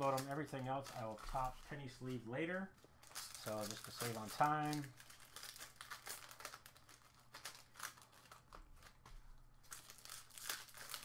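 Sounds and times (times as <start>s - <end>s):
card wrappers crinkling: 0.0s - 11.0s.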